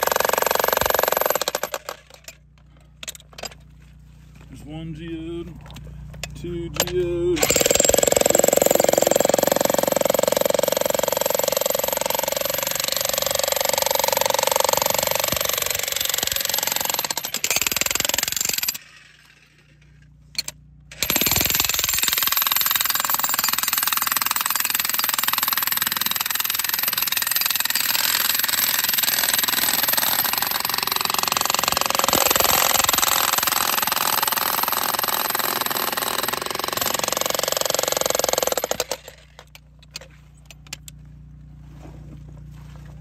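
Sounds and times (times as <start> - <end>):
jackhammer chiselling rock: 0.0 - 2.4, 6.8 - 19.8, 20.4 - 39.6.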